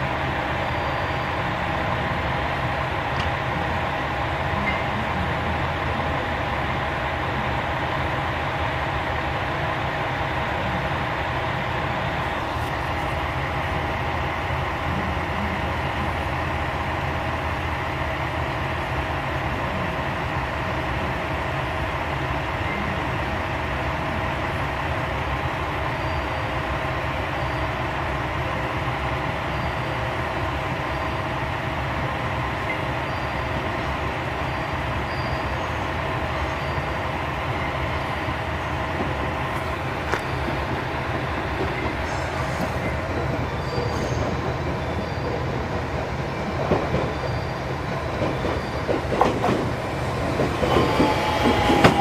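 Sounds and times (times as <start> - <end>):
diesel railcar engines idling: 0.0 - 52.0.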